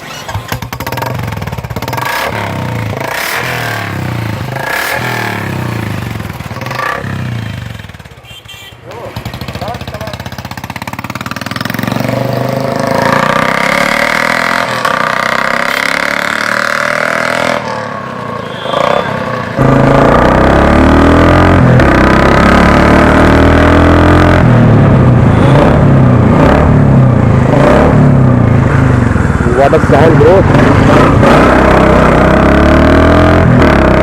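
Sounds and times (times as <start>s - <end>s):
motorcycle engine revving: 0.0s - 8.3s, 8.9s - 34.0s.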